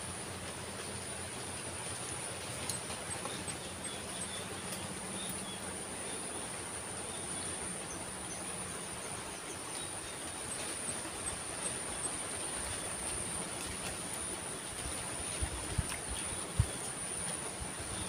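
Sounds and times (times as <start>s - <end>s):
constant hiss: 0.0s - 18.0s.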